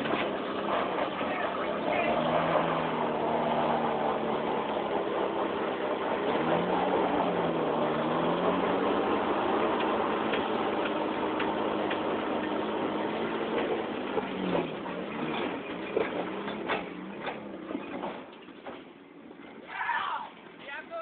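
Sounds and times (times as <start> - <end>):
truck engine running under load: 0.0 - 19.6.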